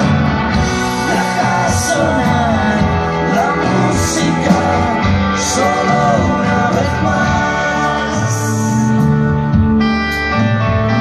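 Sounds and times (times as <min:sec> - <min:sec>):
bending lead guitar line: 0:00.0 - 0:11.0
live rock band playing: 0:00.0 - 0:11.0.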